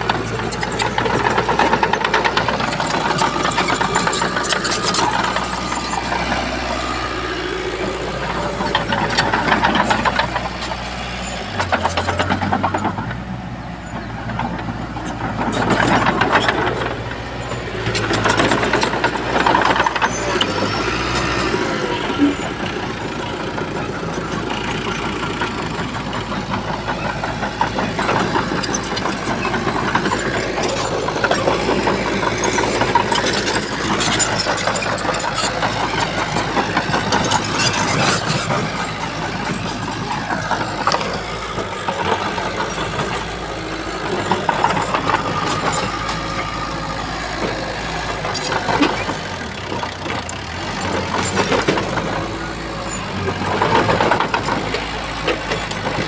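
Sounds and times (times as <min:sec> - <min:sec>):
knocks and rattles: 0:00.0 - 0:13.3, 0:14.0 - 0:56.0
bulldozer diesel engine working: 0:00.0 - 0:56.0.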